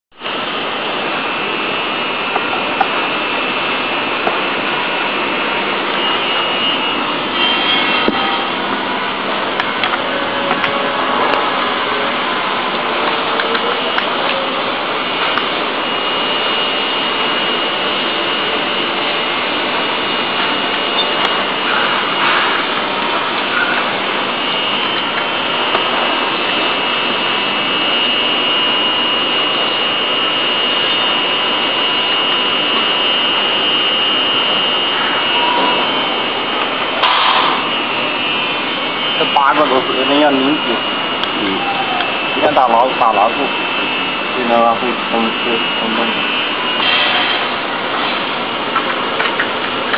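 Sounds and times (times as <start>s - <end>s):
faint high whine: 0.2s - 49.2s
loud mechanical rushing noise: 0.2s - 49.9s.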